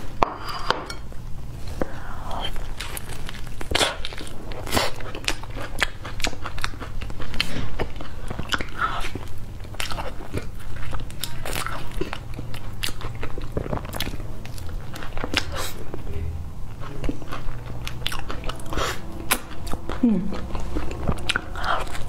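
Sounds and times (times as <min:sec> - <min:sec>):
person chewing soft food: 0:01.6 - 0:22.0.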